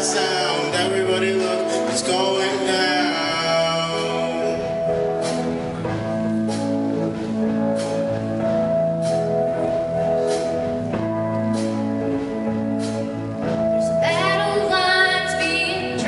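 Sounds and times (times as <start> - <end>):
instrumental music with sharp beat: 0.0 - 14.6.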